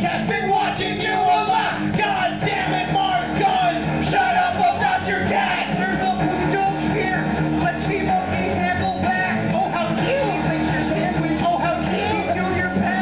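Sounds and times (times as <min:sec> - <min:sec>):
man singing loudly into microphone: 0:00.0 - 0:13.0
rock band playing: 0:00.0 - 0:13.0.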